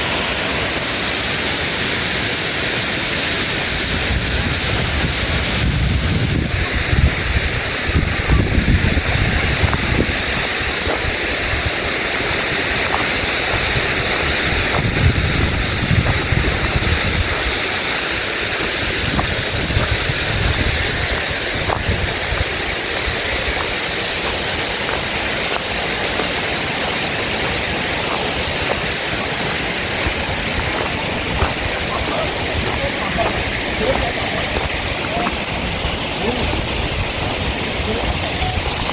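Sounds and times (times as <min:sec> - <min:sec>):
steady rushing noise: 0:00.0 - 0:38.9
wind buffeting microphone: 0:03.6 - 0:38.9.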